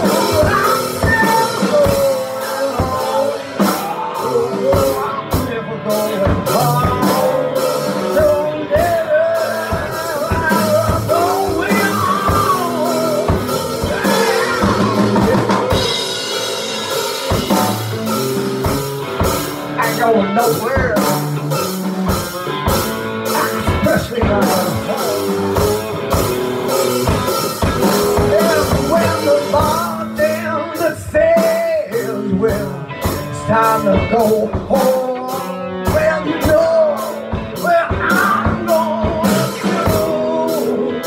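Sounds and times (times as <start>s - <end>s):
drum kit beat: 0.0s - 41.0s
electric guitar: 0.0s - 41.0s
person singing: 0.0s - 41.0s.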